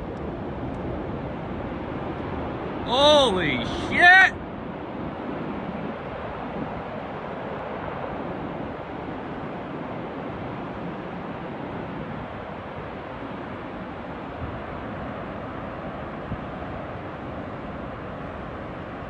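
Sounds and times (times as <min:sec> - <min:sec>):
rushing roar of large fire: 0:00.0 - 0:19.0.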